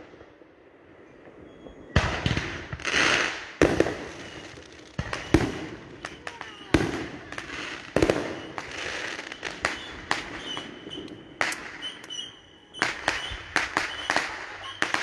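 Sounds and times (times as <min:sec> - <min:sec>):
fireworks bangs: 0:00.0 - 0:15.0
fireworks crackling: 0:01.2 - 0:15.0.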